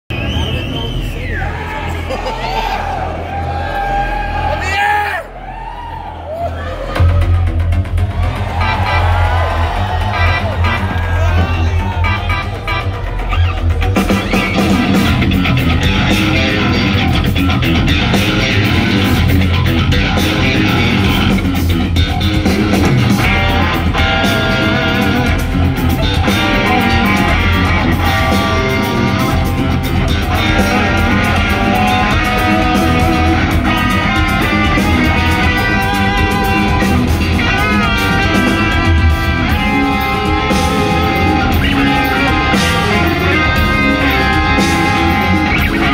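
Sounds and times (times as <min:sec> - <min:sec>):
drum kit: 0:06.8 - 0:45.9
electric guitars playing fast: 0:06.9 - 0:45.9.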